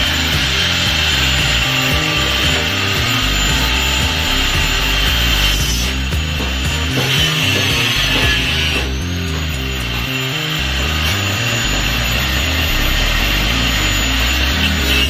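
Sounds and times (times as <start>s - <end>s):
background music with bass: 0.0s - 15.0s
power tool grinding: 0.0s - 15.0s.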